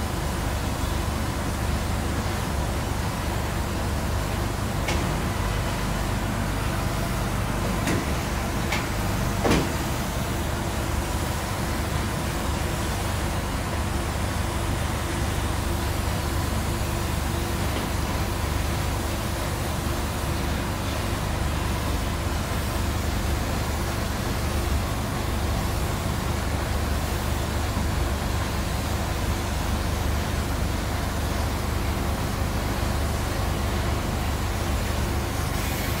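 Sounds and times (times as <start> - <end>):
ventilation rumble: 0.0 - 36.0
spray gun air hiss: 0.2 - 36.0.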